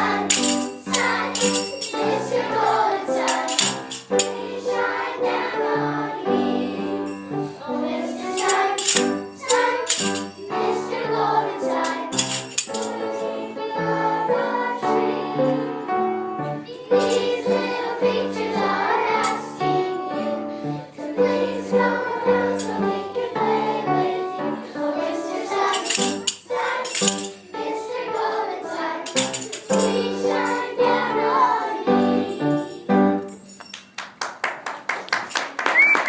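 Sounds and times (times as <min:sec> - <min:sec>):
group of voices singing: 0:00.0 - 0:33.2.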